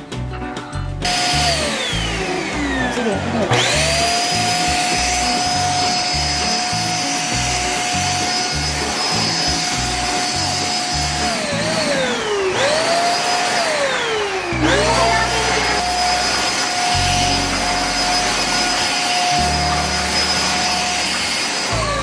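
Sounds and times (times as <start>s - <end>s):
handheld vacuum motor whining: 1.1s - 22.0s.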